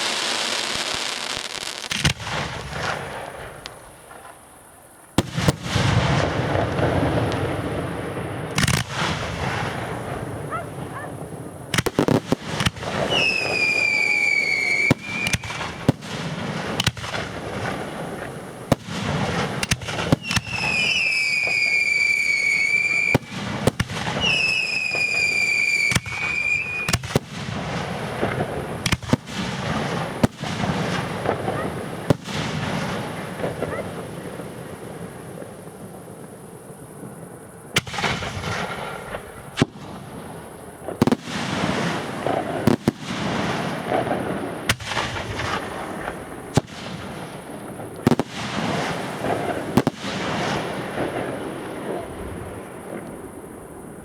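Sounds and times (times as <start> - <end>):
fireworks cracking and banging: 0.0 - 4.6, 5.2 - 54.0
whistling fireworks: 0.0 - 54.0.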